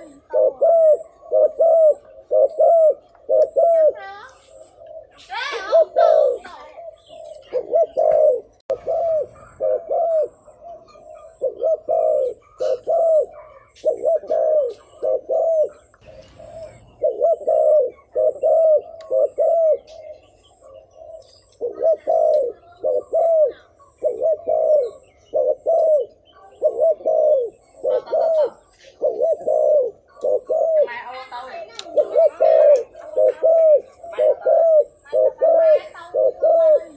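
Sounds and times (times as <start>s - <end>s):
dove cooing: 0.0s - 36.9s.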